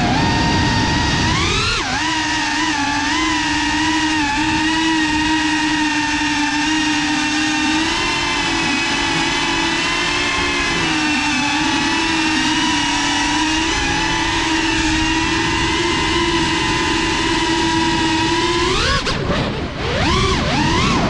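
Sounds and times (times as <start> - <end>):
drone propellers buzzing whine: 0.0 - 21.0.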